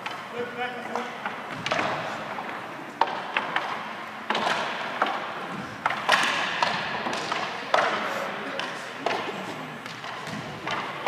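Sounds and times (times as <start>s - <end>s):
hockey sticks clacking: 0.0s - 11.0s.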